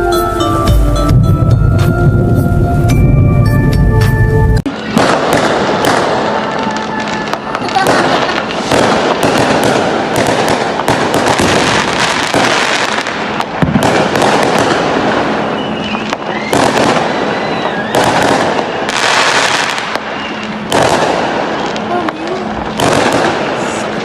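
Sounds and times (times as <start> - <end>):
fireworks crackling and banging: 4.6 - 24.0
fireworks whistles: 4.7 - 24.0.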